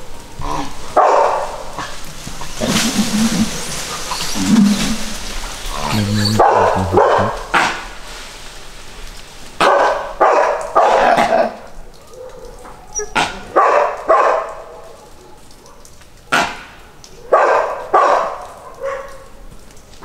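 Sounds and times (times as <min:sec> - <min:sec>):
dogs barking: 0:00.9 - 0:07.9, 0:09.6 - 0:19.4.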